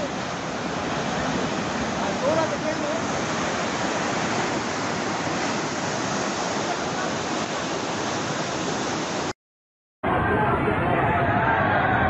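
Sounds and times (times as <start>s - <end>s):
flood torrent rushing: 0.0s - 9.3s, 10.1s - 12.0s.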